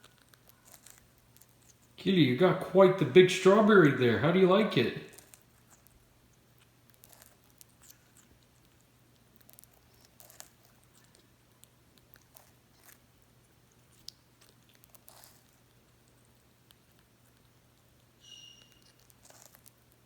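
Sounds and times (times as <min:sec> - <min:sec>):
parrot beak nibbling fruit: 0:00.0 - 0:02.0, 0:05.1 - 0:20.0.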